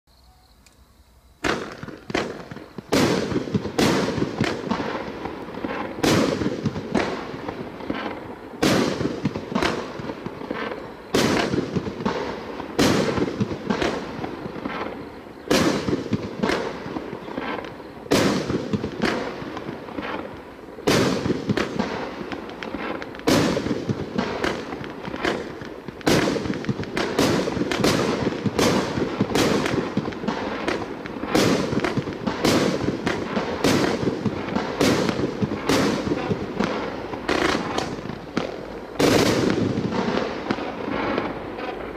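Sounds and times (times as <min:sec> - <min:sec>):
firework crackling: 0:01.3 - 0:41.9
firework bangs: 0:01.4 - 0:41.9.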